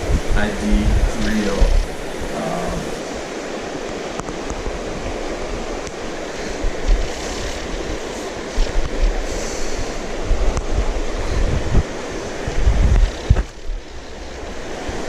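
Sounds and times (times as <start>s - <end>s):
river current rushing: 0.0s - 15.0s
wind buffeting microphone: 0.0s - 15.0s.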